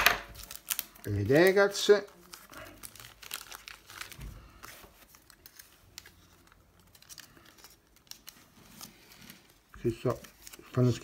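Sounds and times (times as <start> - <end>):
packaging crinkling and ticking: 0.3 - 11.0.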